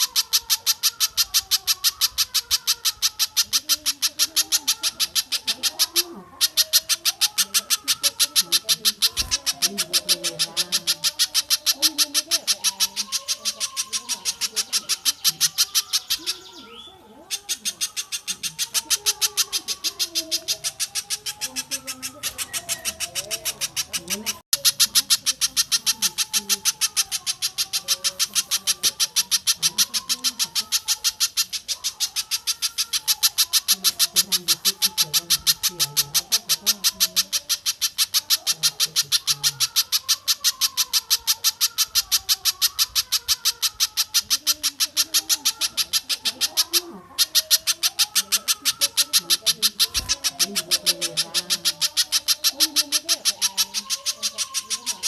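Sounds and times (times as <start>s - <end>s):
lower bird calls: 0.0s - 55.0s.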